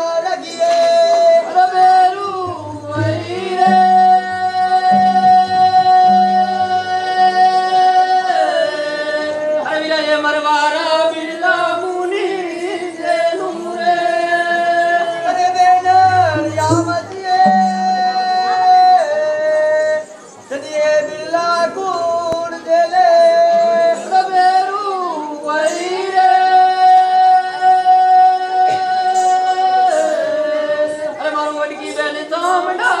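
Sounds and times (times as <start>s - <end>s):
folk singing with high notes: 0.0s - 20.6s, 21.2s - 33.0s.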